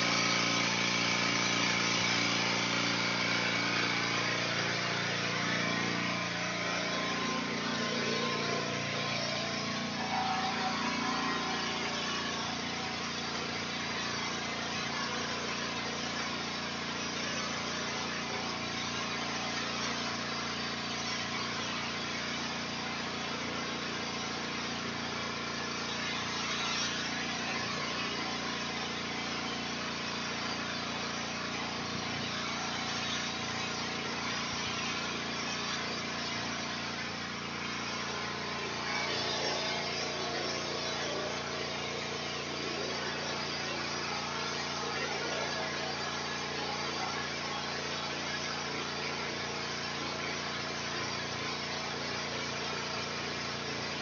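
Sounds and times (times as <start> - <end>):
high-pressure water jet hiss: 0.0 - 54.0
small engine drone: 0.0 - 54.0.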